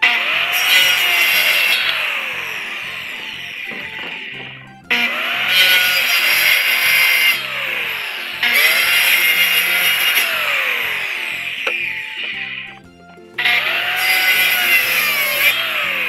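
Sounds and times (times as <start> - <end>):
circular saw cutting plywood: 0.0 - 16.0.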